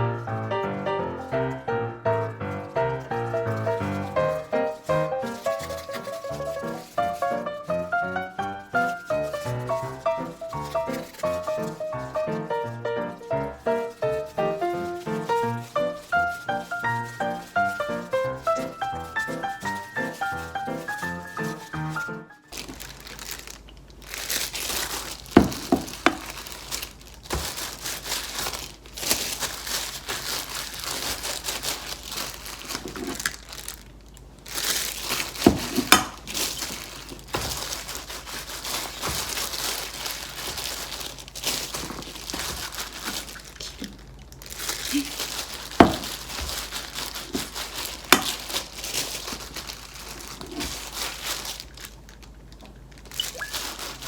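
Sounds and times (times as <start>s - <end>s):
crinkling and rustling: 0.0s - 54.0s.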